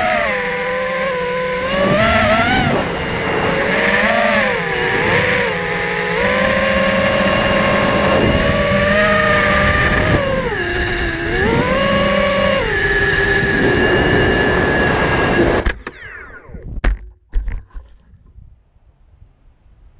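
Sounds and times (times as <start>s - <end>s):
quadcopter motors whining: 0.0s - 16.8s.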